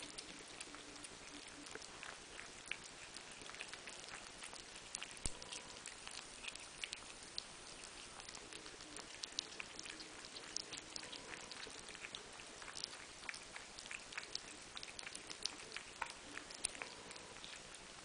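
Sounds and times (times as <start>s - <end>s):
cats eating wet food: 0.0s - 18.0s.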